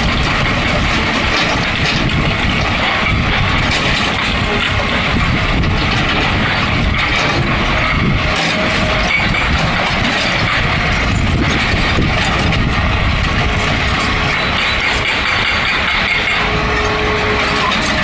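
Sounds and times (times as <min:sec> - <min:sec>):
excavator running: 0:00.0 - 0:18.0.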